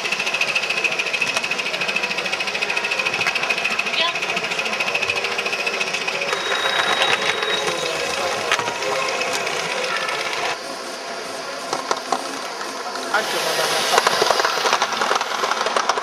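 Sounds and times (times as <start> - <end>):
model steam locomotive chuffing: 0.0 - 16.0.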